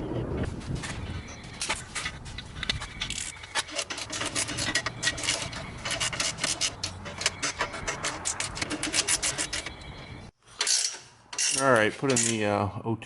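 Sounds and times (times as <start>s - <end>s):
metallic clicking and scraping of tools: 1.6s - 12.5s.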